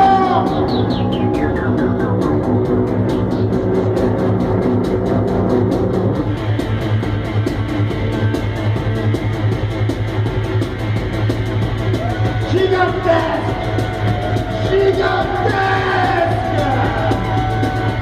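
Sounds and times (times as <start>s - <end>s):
droning bass: 0.0s - 18.0s
drum kit beat: 0.0s - 18.0s.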